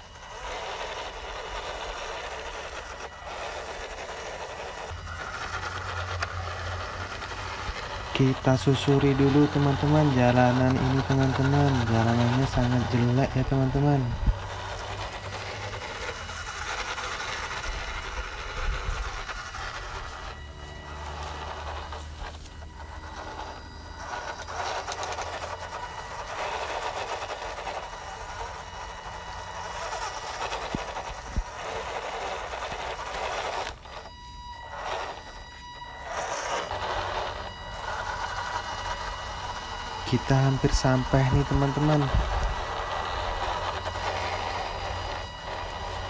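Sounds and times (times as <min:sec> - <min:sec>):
toy truck electric motor whirring: 0:00.0 - 0:46.0.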